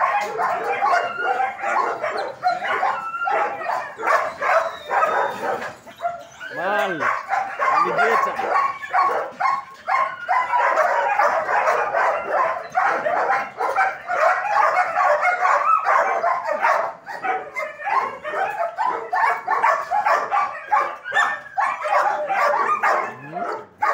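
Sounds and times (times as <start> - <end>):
dogs barking: 0.0 - 23.9.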